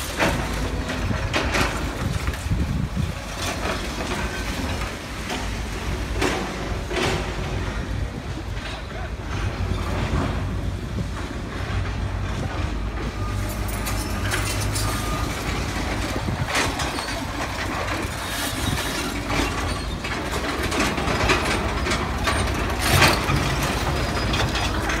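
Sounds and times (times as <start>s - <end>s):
excavator diesel engines running: 0.0s - 25.0s.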